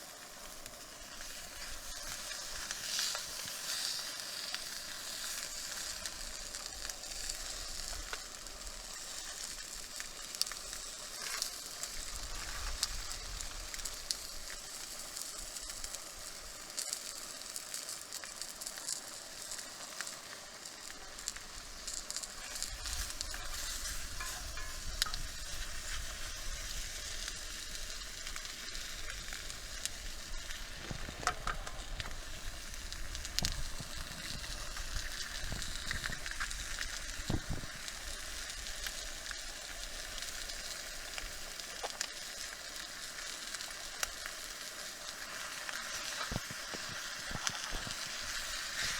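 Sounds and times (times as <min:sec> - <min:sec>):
campfire sizzling and crackling: 0:00.0 - 0:48.9.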